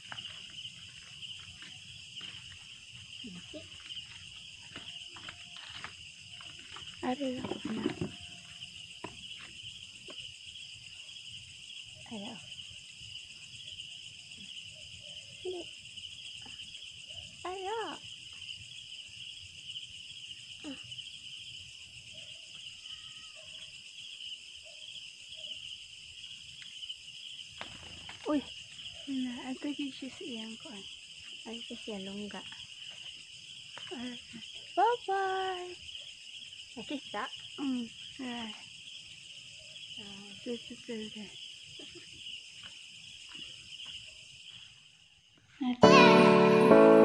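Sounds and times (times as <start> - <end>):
crickets trilling: 0.0 - 45.8.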